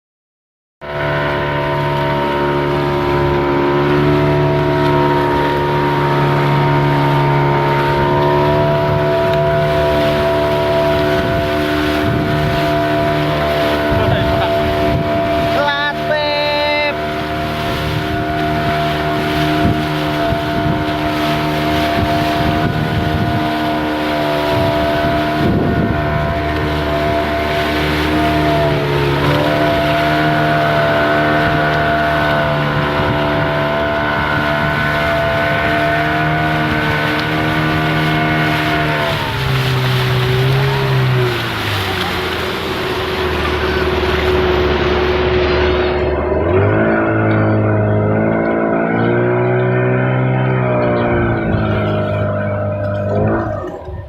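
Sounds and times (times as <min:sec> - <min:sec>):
boat engine droning: 0:00.8 - 0:54.0
wind buffeting microphone: 0:01.1 - 0:54.0.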